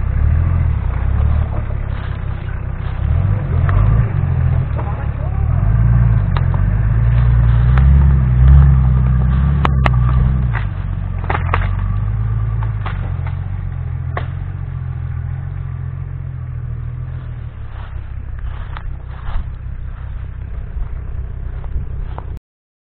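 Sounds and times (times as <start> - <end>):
suv engine under load: 0.0 - 22.4.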